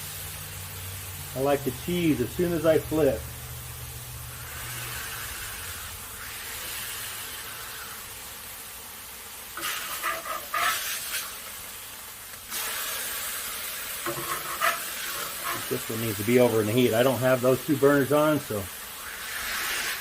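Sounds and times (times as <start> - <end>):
patties sizzling on griddle: 0.0 - 20.0.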